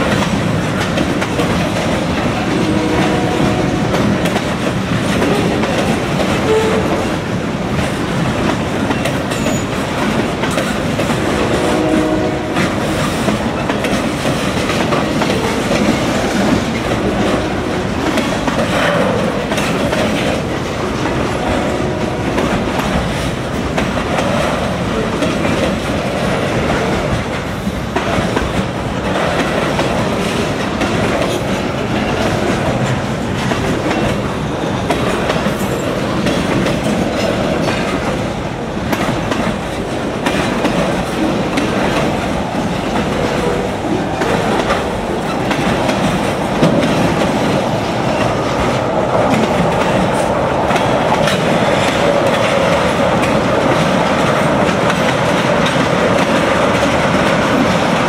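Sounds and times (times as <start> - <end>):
clickety-clack over rail joints: 0.0 - 58.0
steel wheels rumbling: 0.0 - 58.0.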